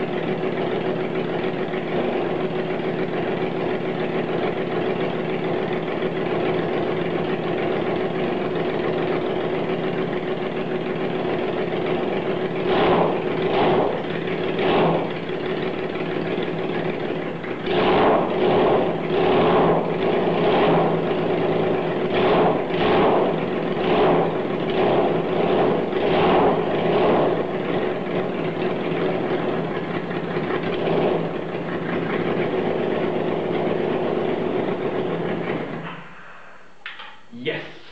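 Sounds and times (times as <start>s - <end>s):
engine idling with throttle blips: 0.0s - 36.8s.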